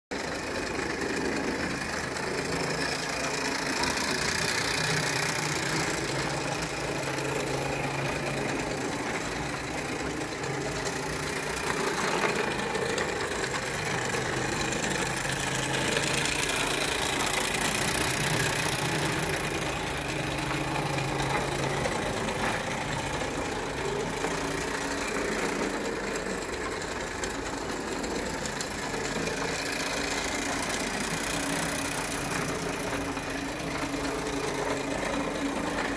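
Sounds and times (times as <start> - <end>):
toy steam locomotive running: 0.1 - 35.9.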